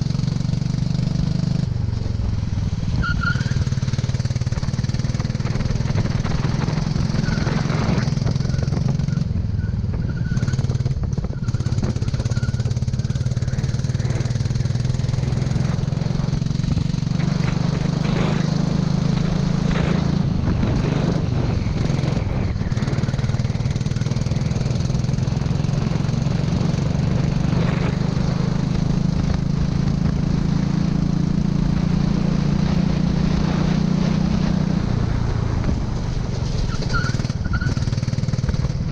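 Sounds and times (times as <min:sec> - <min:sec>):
kart engine running under load: 0:00.0 - 0:38.9.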